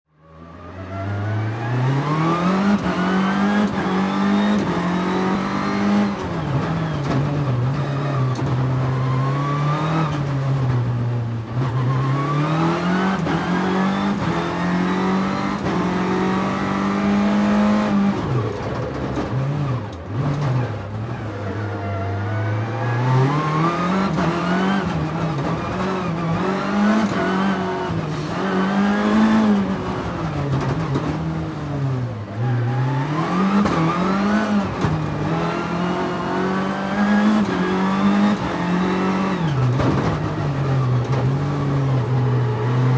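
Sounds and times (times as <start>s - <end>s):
car engine accelerating and shifting: 0.1s - 42.9s.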